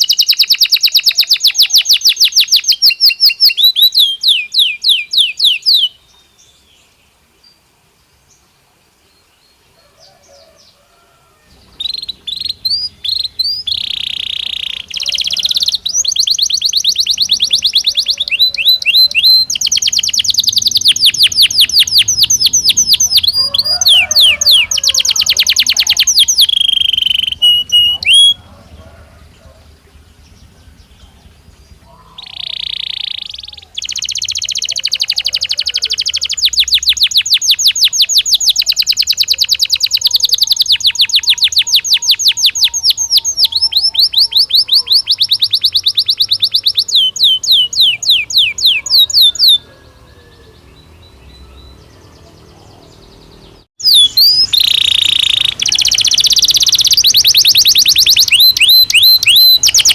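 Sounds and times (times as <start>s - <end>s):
canary singing: 0.0s - 6.3s, 10.0s - 59.9s.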